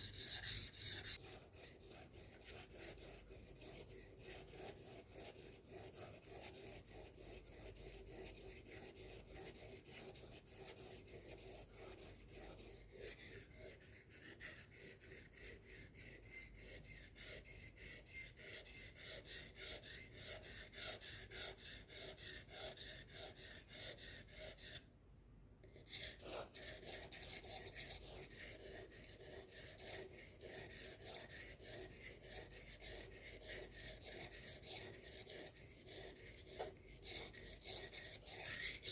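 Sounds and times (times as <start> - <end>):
knife rasping on sharpener: 0.0 - 24.8, 25.6 - 38.9.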